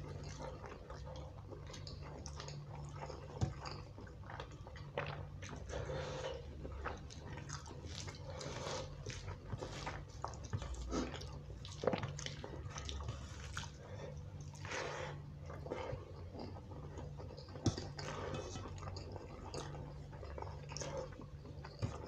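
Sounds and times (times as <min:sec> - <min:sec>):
wet chewing and mouth smacking: 0:00.0 - 0:14.7, 0:15.3 - 0:22.0.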